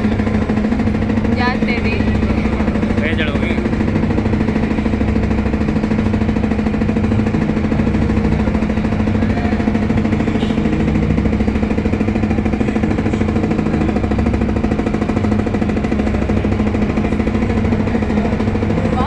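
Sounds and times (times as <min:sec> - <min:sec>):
engine running with rapid throb: 0:00.0 - 0:19.0.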